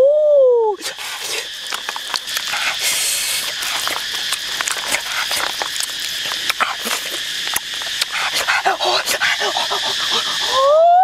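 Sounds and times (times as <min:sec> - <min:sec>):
hands squelching wet marinade: 0:00.8 - 0:10.5.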